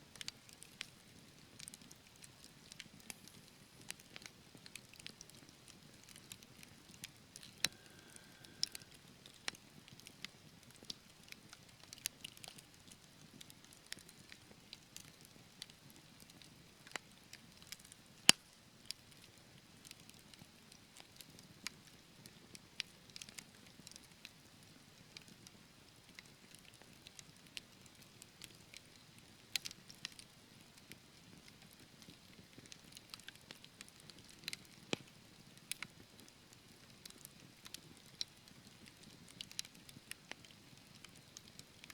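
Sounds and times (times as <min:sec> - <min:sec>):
wood fire crackling: 0:00.1 - 0:17.9, 0:25.2 - 0:41.9.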